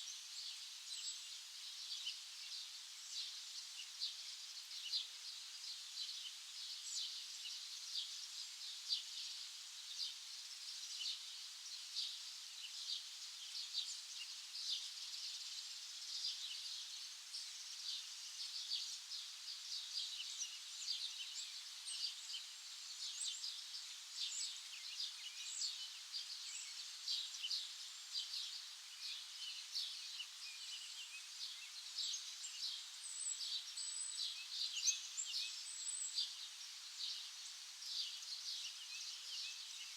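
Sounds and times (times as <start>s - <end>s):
small birds chirping: 0.0s - 39.9s
steady soft hiss: 0.0s - 39.9s.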